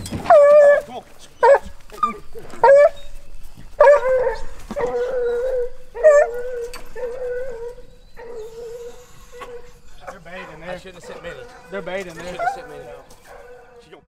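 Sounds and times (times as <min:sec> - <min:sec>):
dog howling and whining: 0:00.0 - 0:13.9.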